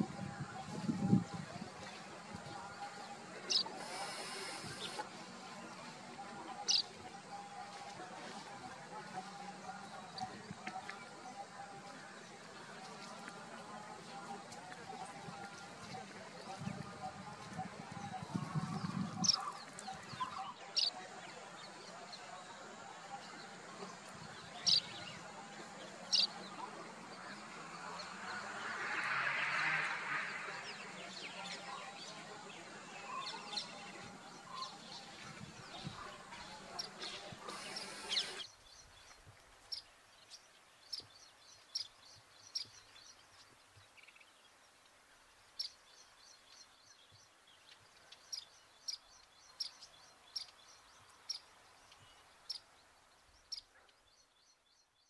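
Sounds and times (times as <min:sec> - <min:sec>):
background noise: 0:00.0 - 0:55.0.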